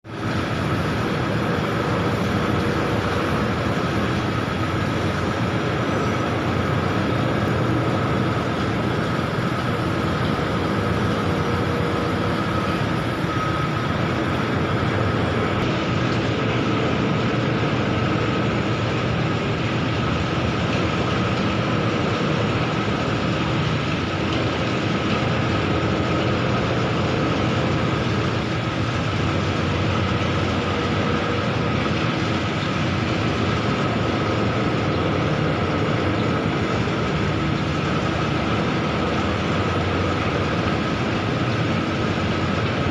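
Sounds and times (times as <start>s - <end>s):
machine mechanical rumble: 0.0s - 42.9s
thin steady whine: 0.0s - 42.9s.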